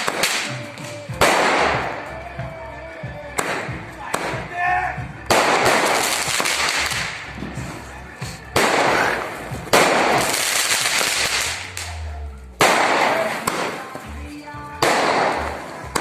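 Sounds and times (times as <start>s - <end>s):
fireworks bangs: 0.0s - 2.2s, 3.3s - 16.0s
fireworks crackle: 0.0s - 2.3s, 3.3s - 4.5s, 5.3s - 16.0s.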